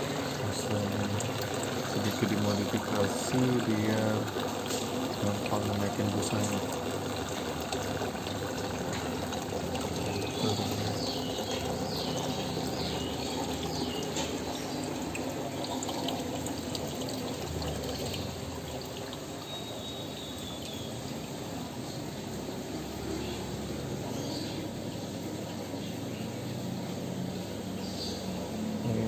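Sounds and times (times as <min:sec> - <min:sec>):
protein skimmer running: 0:00.0 - 0:29.0
water rushing and trickling: 0:00.0 - 0:29.0.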